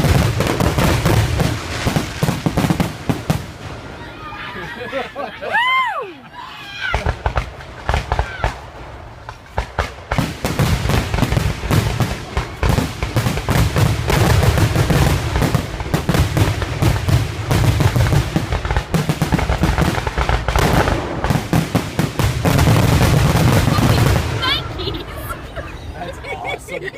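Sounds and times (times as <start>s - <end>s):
deep fireworks booms: 0.0s - 5.0s, 6.8s - 25.8s
fireworks bangs and crackles: 0.0s - 5.9s, 6.8s - 26.9s.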